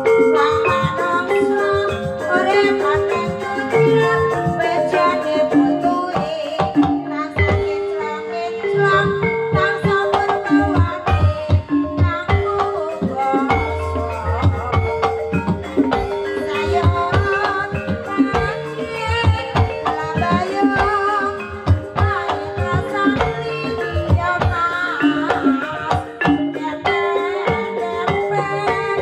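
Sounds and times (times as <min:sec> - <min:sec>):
hand drums playing: 0:00.0 - 0:29.0.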